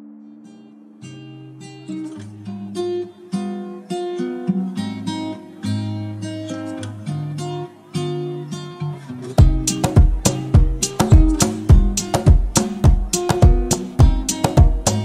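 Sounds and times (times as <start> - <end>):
acoustic guitar picking and strumming: 0.0 - 15.0.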